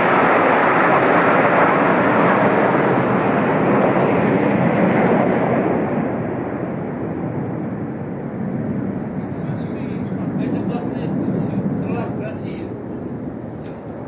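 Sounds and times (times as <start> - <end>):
jet aircraft flying overhead: 0.0 - 14.0.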